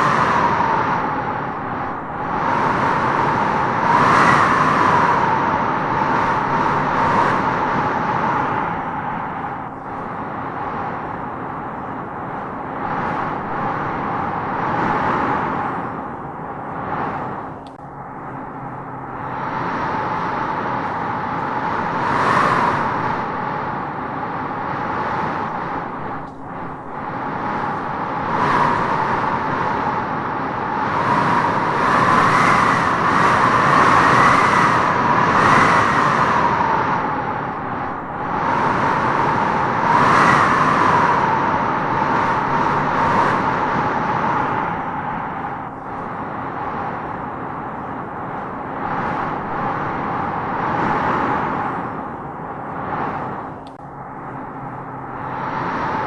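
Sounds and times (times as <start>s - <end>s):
wind gusts whistling: 0.0s - 56.0s.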